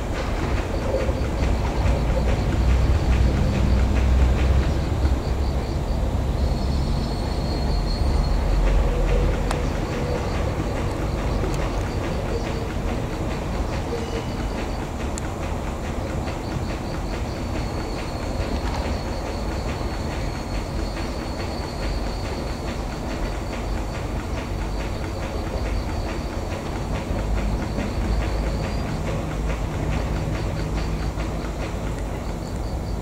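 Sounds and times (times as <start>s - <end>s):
diesel locomotive engine rumble: 0.0s - 33.0s
rapid ticking clatter: 0.0s - 33.0s.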